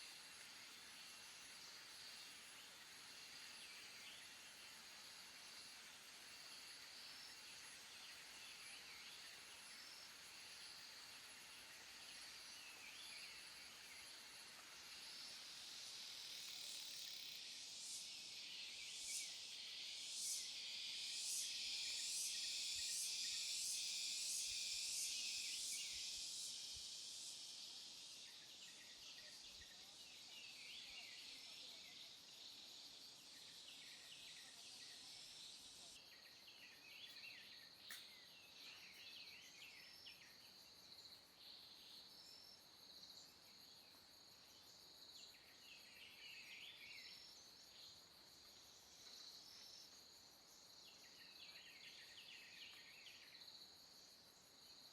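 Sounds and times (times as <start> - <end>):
pulsing high insect buzz: 0.0 - 54.8
short insect chirps: 0.0 - 54.9
steady high insect drone: 0.0 - 54.9.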